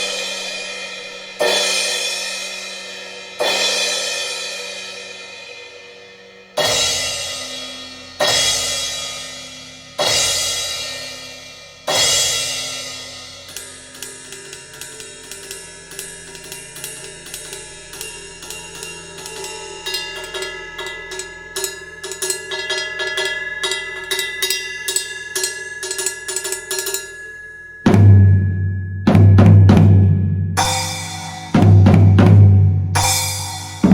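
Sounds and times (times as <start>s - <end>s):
cymbal crashes: 0.0s - 26.7s, 27.9s - 33.9s
light cymbal and hi-hat strikes: 0.0s - 33.9s.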